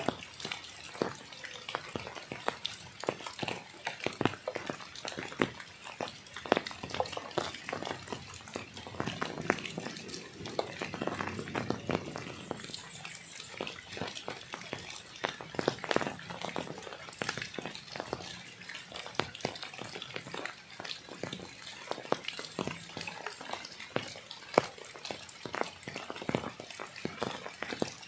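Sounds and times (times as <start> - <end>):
rain drops tapping: 0.0 - 28.0.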